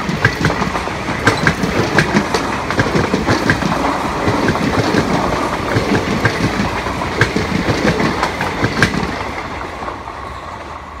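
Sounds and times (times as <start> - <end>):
train wheels clicking over rail joints: 0.0 - 10.7
train rumble: 0.0 - 11.0.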